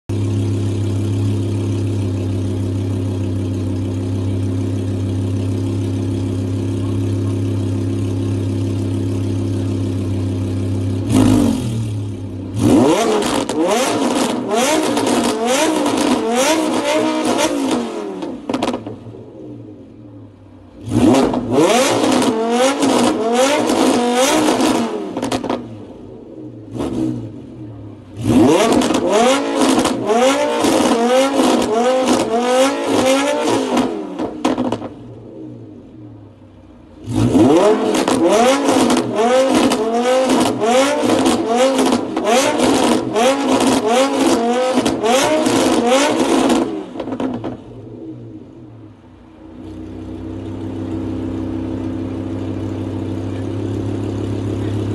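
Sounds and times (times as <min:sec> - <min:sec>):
sports car engine idling and revving: 0:00.1 - 0:54.9.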